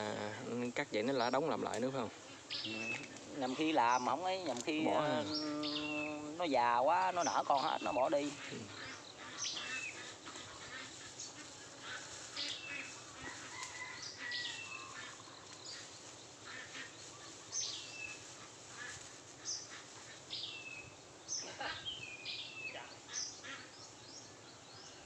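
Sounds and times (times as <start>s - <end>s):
bird calling: 0.0s - 25.0s
faint steady hiss: 0.0s - 25.0s.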